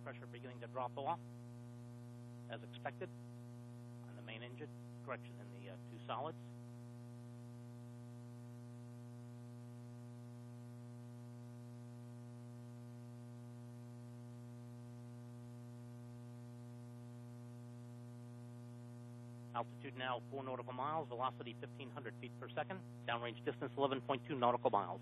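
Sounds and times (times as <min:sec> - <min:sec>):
mains hum: 0:00.0 - 0:25.0.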